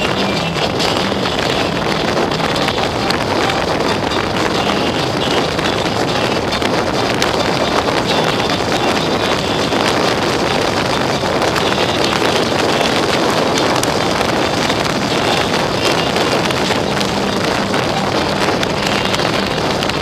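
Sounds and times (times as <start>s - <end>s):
motorcycle engine droning: 0.0s - 20.0s
wind buffeting microphone: 0.0s - 20.0s.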